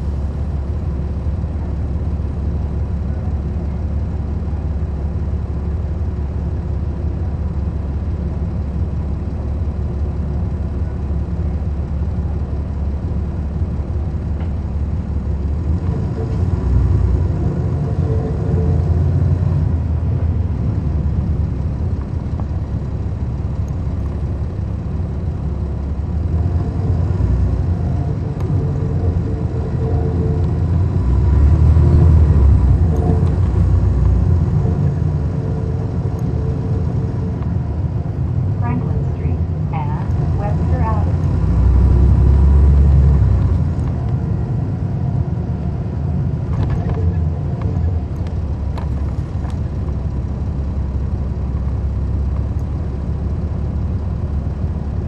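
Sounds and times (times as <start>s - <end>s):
bus diesel engine rumble: 0.0s - 55.0s
engine whine: 0.0s - 55.0s.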